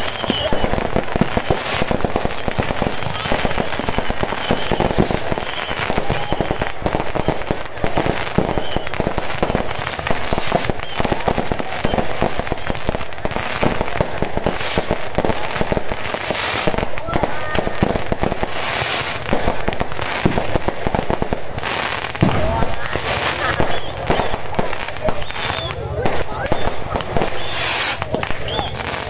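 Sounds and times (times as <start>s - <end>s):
fireworks crackling: 0.0s - 29.0s
loud firework bursts: 0.0s - 29.0s.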